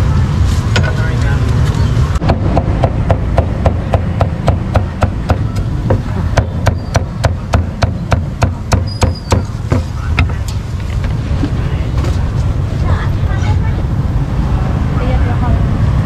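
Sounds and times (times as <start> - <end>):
low street rumble: 0.0 - 16.0.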